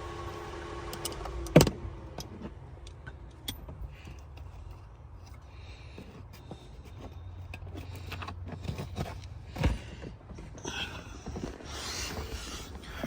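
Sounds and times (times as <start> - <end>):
hands and tools clicking and scraping: 2.1 - 13.0.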